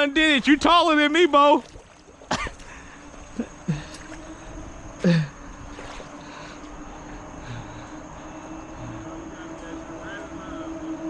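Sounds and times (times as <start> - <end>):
outdoor background noise: 0.0 - 11.0
steady low hum: 2.0 - 11.0.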